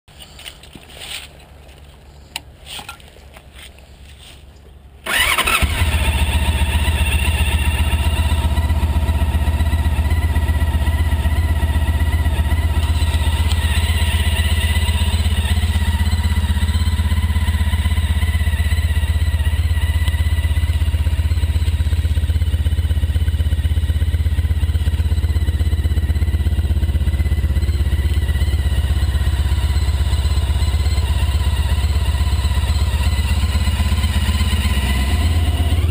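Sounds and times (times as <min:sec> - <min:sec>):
motorcycle engine starting and idling: 0:05.0 - 0:35.9.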